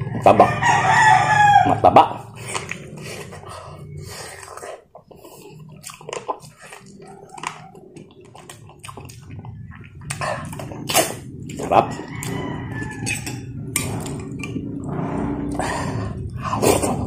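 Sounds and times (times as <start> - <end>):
person chewing rice: 2.2 - 17.0.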